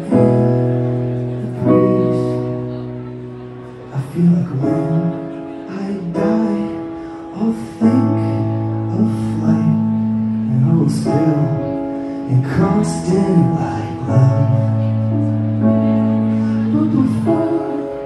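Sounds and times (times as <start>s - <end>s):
keyboard chords: 0.0s - 18.0s.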